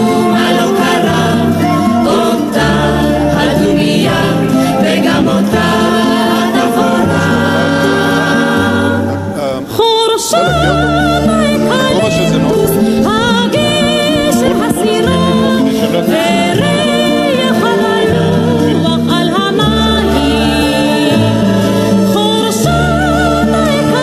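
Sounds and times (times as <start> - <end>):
voices singing together: 0.0 - 24.0.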